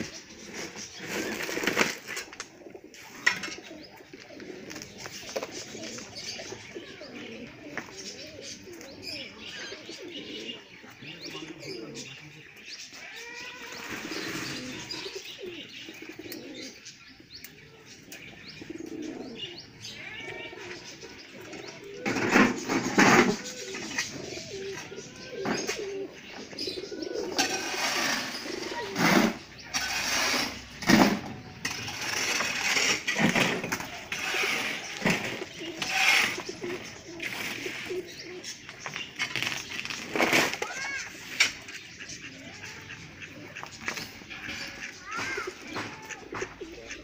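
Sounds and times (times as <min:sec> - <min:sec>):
pigeons cooing: 0:00.0 - 0:47.0.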